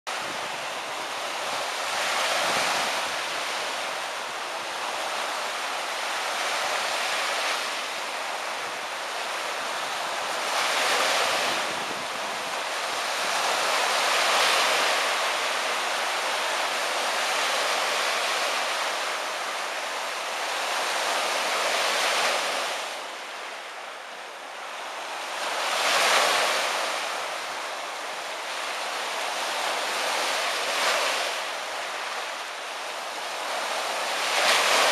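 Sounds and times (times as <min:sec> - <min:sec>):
lake waves washing onto shore: 0:00.1 - 0:34.9.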